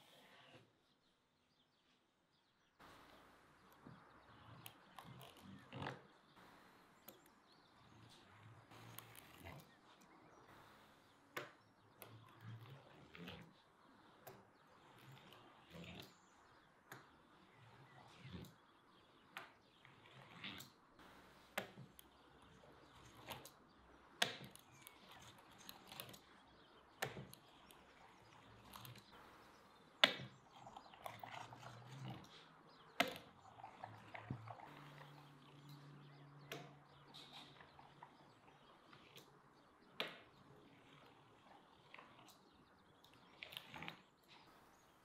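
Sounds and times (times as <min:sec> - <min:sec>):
pastry wheel rolling through dough: 0:02.8 - 0:45.0.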